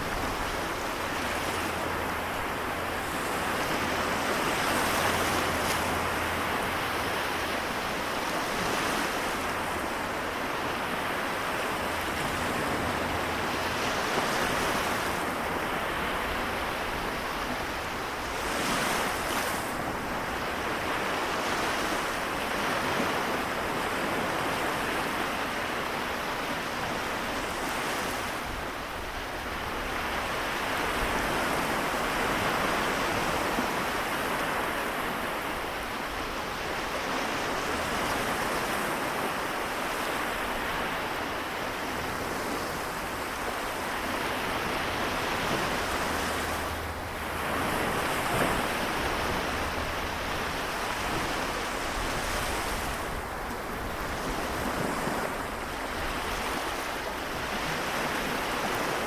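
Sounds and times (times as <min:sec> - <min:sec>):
sea waves washing: 0:00.0 - 0:59.0.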